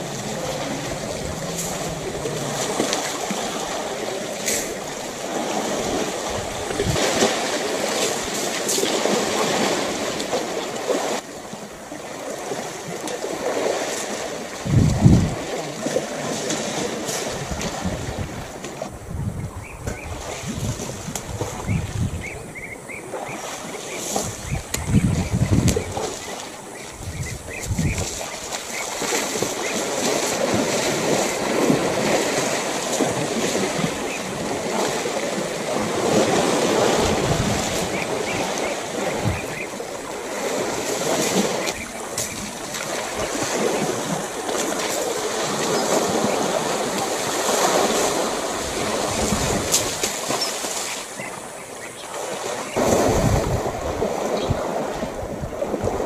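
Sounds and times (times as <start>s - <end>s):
wind buffeting microphone: 0.0s - 10.3s, 14.1s - 50.5s, 52.6s - 56.0s
water sloshing and splashing: 0.0s - 56.0s.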